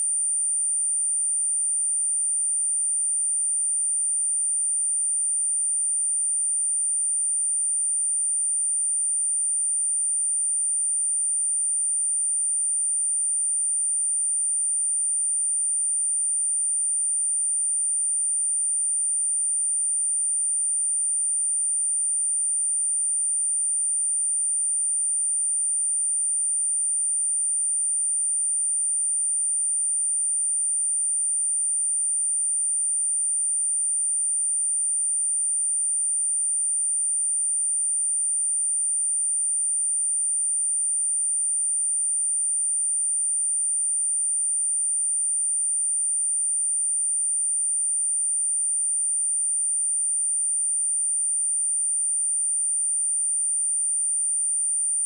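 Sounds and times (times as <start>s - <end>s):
high-pitched sine-wave test tone: 0.0s - 55.0s.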